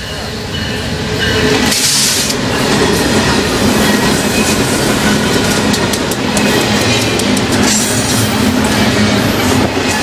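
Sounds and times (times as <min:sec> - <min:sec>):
diesel locomotive rushing by: 0:00.0 - 0:10.0
train wheels running on rails: 0:00.0 - 0:10.0.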